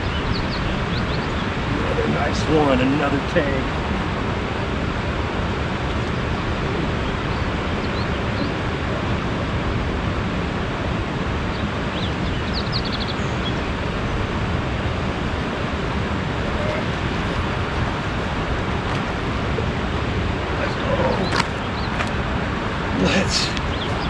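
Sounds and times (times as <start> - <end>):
wind on microphone: 0.0 - 24.0.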